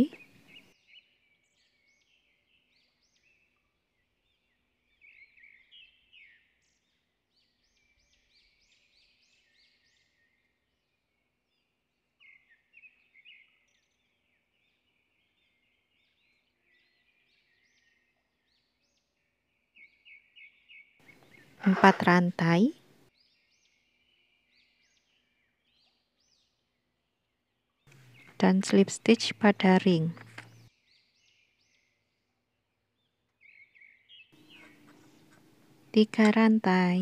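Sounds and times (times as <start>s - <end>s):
faint birds chirping: 0.0s - 37.0s.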